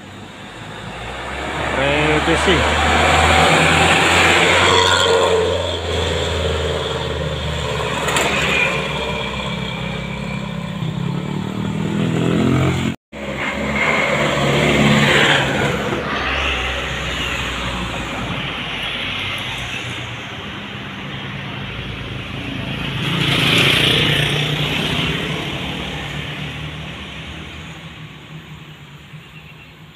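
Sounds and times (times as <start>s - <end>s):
bus engines pulling uphill: 0.0s - 29.9s.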